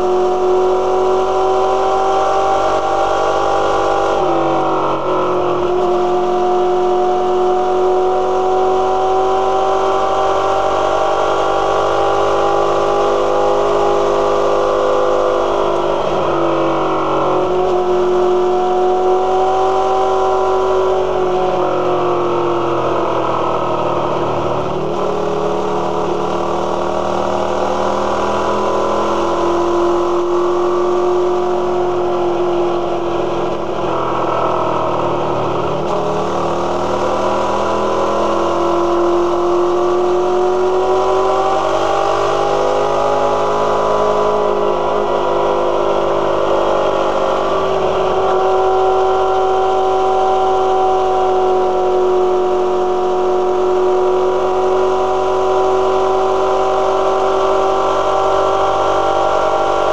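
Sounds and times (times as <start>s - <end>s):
motorcycle engine running: 8.9s - 59.9s.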